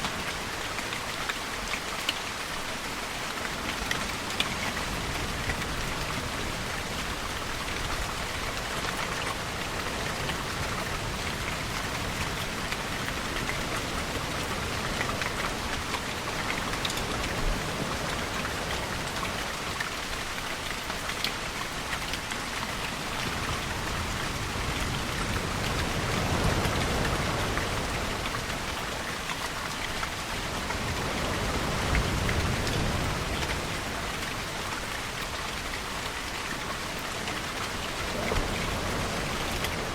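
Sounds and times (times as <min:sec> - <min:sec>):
steady rainfall hissing: 0:00.0 - 0:39.9.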